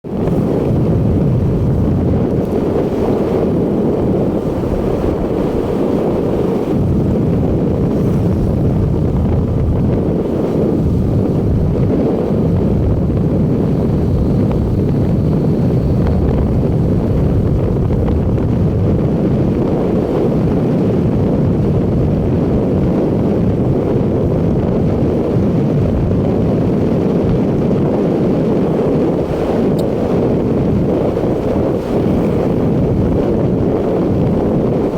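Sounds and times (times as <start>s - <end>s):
motorcycle engine and road noise: 0.0s - 34.9s
wind buffeting microphone: 0.0s - 34.9s.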